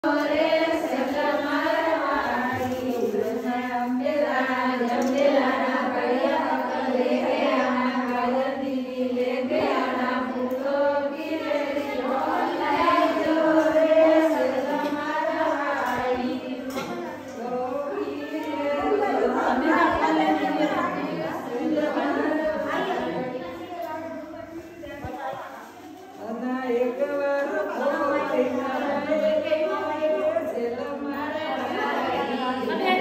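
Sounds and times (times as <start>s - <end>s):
women singing folk song in unison: 0.0s - 23.6s, 26.1s - 33.0s.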